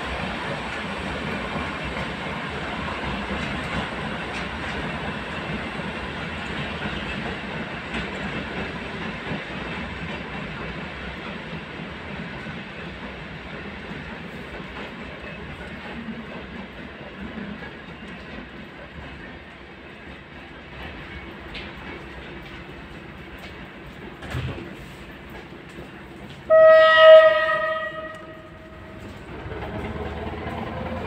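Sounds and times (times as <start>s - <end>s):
freight train rolling on rails: 0.0s - 31.0s.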